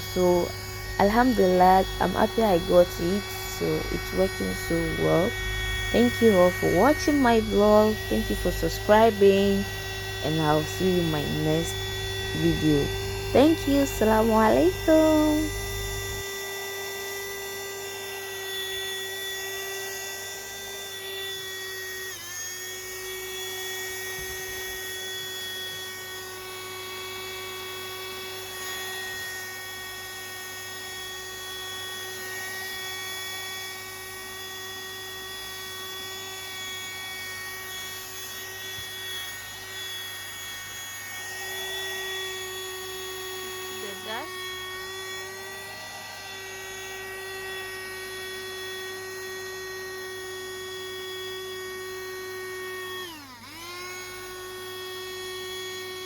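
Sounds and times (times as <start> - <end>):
handheld vacuum cleaner whine: 0.0 - 56.0.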